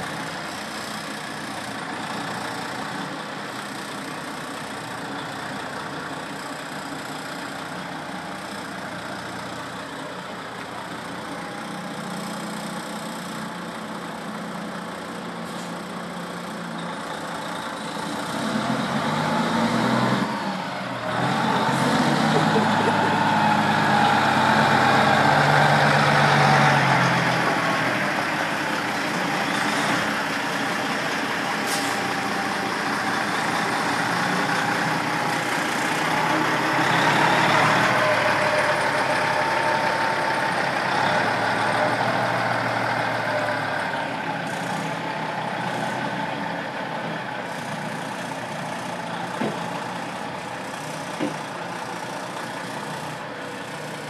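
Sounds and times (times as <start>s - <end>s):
vacuum pump truck engine: 0.0s - 54.0s.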